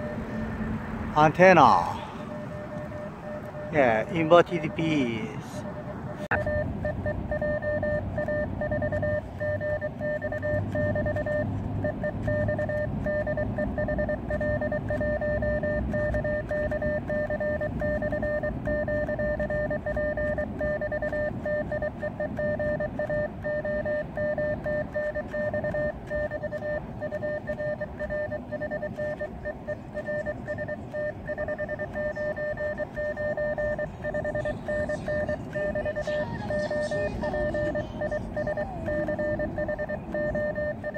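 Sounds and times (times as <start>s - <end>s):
morse code tone: 0.0s - 40.9s.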